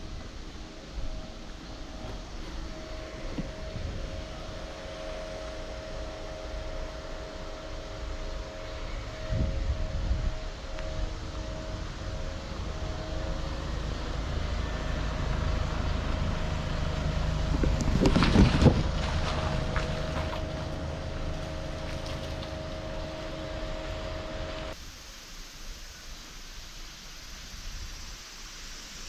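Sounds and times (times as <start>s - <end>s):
car engine drone with road noise: 0.0s - 24.8s.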